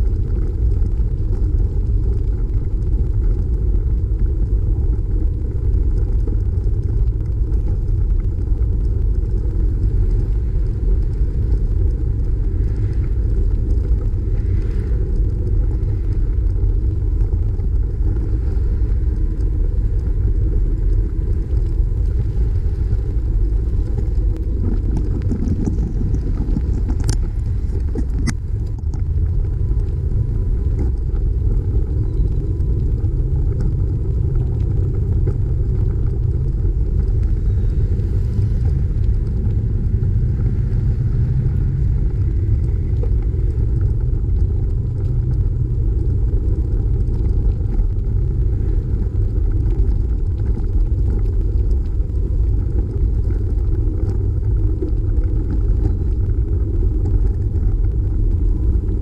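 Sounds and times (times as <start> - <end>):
road vibration rumble: 0.0 - 59.0
wind buffeting microphone: 0.0 - 59.0.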